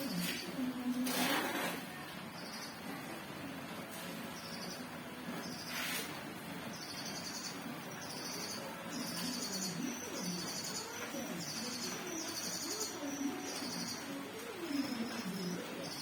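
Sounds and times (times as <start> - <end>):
small birds chirping: 0.0 - 1.1, 2.0 - 16.0.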